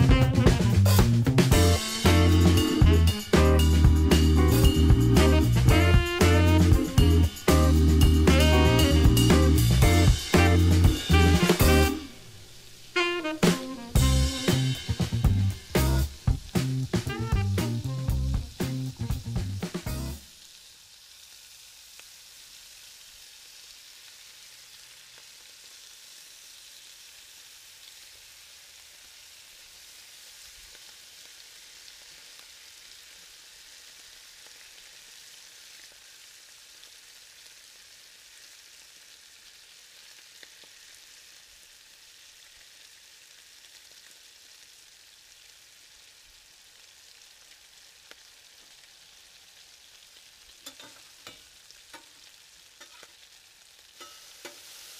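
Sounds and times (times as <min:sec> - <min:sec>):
bacon sizzling on griddle: 0:00.0 - 0:54.9.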